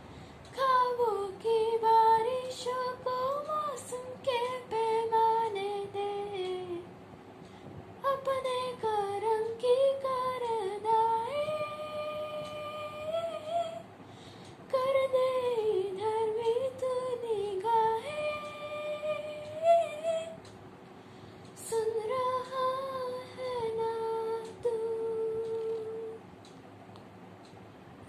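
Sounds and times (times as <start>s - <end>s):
girl singing wordless melody: 0.0s - 26.5s.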